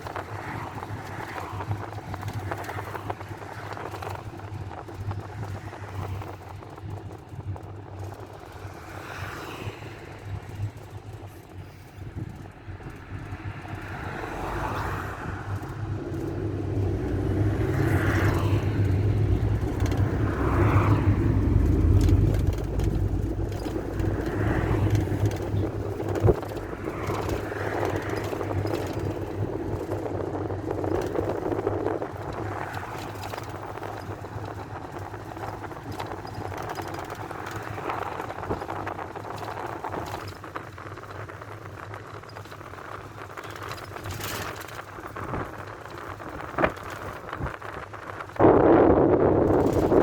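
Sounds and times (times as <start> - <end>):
minibus engine and road noise: 0.0 - 50.0.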